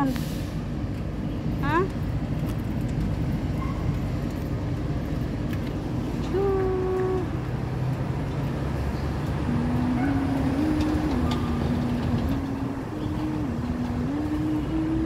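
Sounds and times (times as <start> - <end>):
passing car rumble: 0.0 - 15.0.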